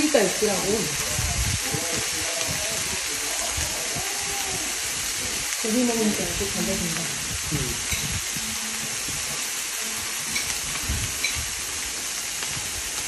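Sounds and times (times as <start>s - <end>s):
steak sizzling in a frying pan: 0.0s - 13.0s.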